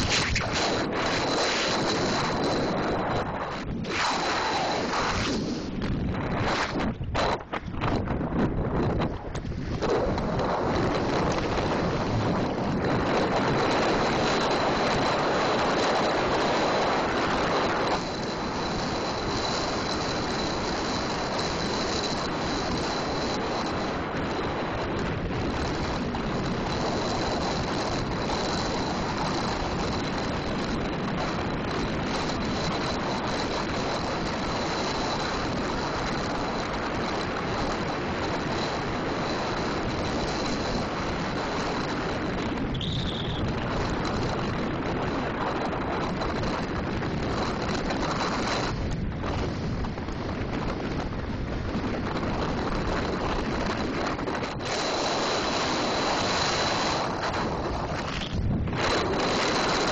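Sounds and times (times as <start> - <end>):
bicycle tyre noise on asphalt: 0.0 - 59.9
wind rushing over microphone: 0.0 - 59.9.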